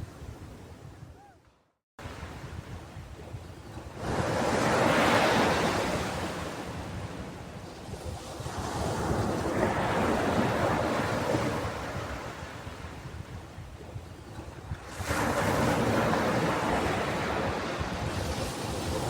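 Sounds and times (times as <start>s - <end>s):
ocean waves washing ashore: 2.0s - 19.0s.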